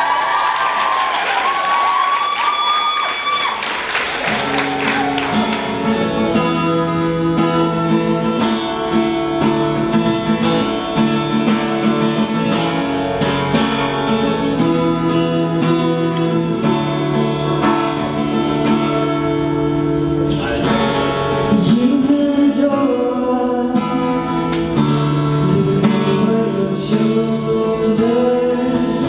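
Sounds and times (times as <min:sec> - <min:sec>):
acoustic guitar strumming: 0:04.2 - 0:29.0.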